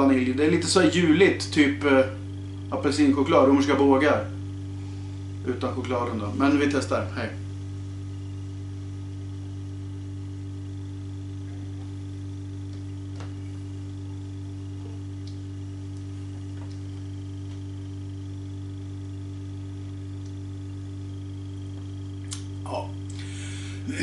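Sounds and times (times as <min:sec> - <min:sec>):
heat pump humming: 0:00.0 - 0:24.0.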